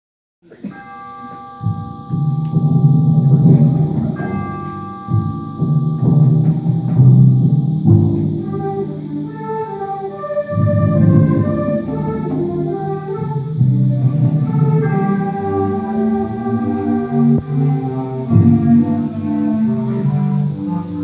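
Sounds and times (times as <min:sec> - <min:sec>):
ringing tone: 0:00.6 - 0:09.7, 0:10.5 - 0:21.0
concert band playing: 0:00.6 - 0:21.0.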